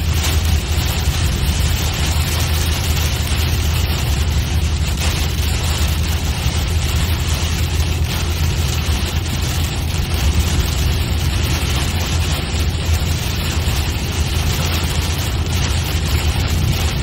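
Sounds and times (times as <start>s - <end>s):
car interior drone: 0.0s - 17.0s.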